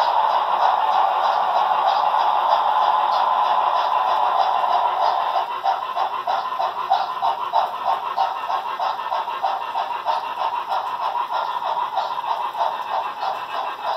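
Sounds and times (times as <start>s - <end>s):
model train clattering over bridge: 0.0s - 13.9s.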